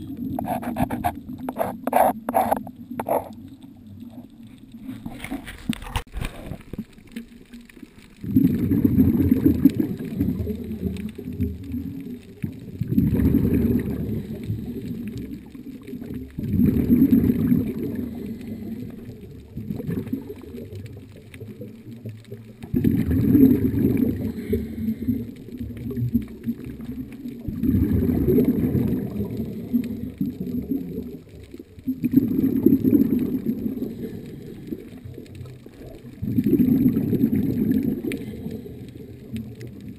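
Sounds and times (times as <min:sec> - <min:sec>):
diver's bubbles gurgling: 0:00.0 - 0:39.9.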